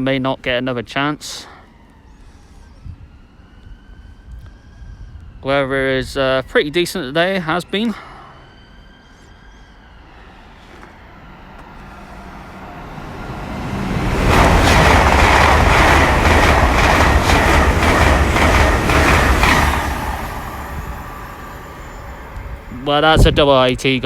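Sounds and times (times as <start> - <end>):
express trains rumbling past: 4.6 - 24.0.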